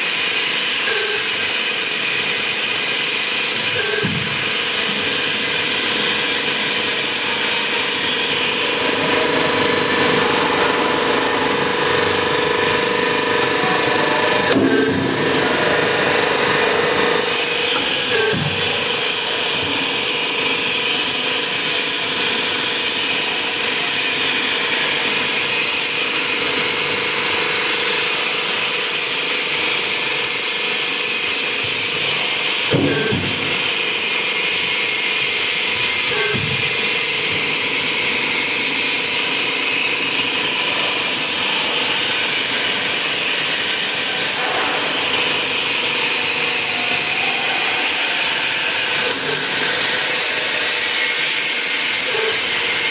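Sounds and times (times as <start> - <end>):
machine humming and whining: 0.0 - 52.9.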